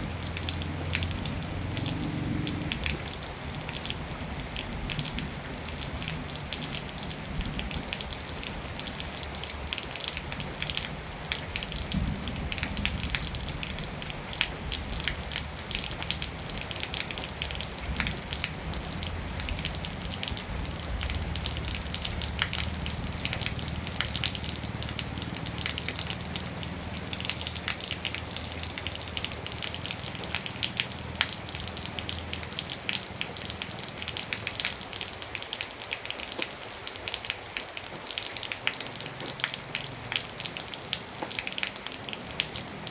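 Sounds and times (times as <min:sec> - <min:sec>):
rain patter: 0:00.0 - 0:42.9.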